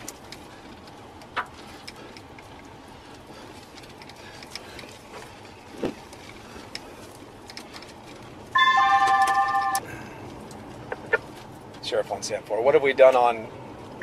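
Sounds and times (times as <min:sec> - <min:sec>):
light ticks and crackles: 0:00.0 - 0:08.6, 0:09.2 - 0:14.0
road and engine noise in car: 0:00.0 - 0:14.0.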